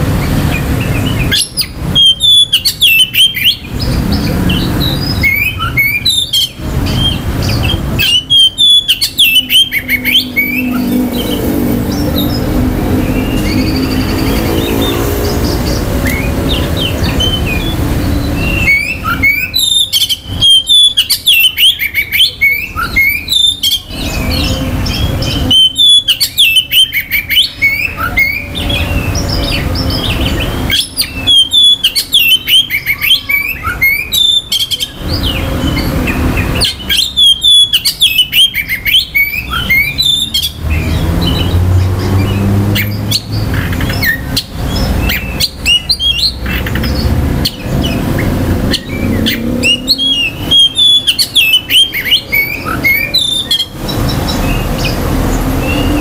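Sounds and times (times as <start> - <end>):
bird singing rapid whistles: 0.2 - 56.0.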